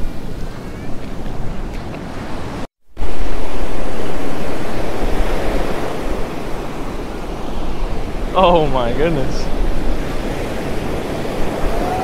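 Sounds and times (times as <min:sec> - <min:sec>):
ocean surf washing onto beach: 0:00.0 - 0:12.0
wind rumbling on microphone: 0:00.0 - 0:12.0.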